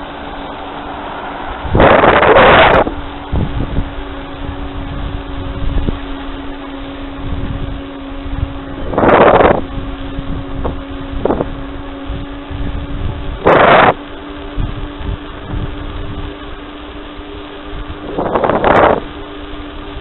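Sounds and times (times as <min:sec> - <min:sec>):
faint steady hum: 0:00.0 - 0:20.0
loud bursts of noise: 0:00.0 - 0:20.0
wind rushing over microphone: 0:00.0 - 0:20.0.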